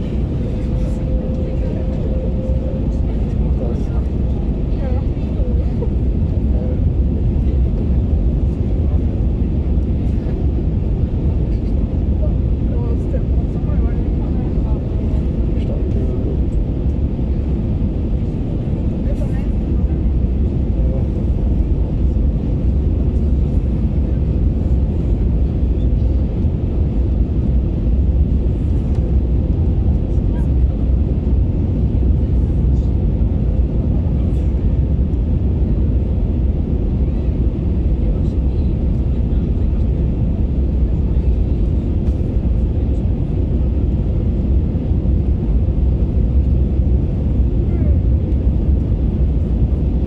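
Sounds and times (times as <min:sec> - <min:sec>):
airplane cabin rumble: 0:00.0 - 0:50.0.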